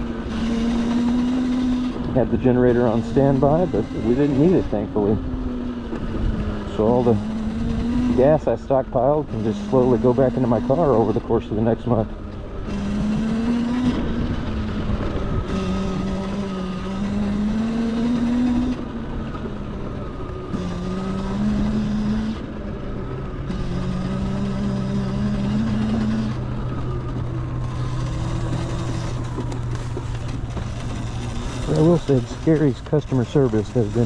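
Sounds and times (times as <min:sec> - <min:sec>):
electric motorcycle motor whining: 0:00.0 - 0:34.0
wind and road noise: 0:00.0 - 0:34.0.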